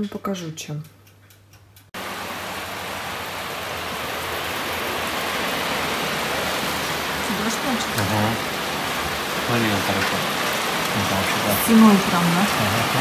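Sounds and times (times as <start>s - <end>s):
steady rain falling: 2.0s - 13.0s.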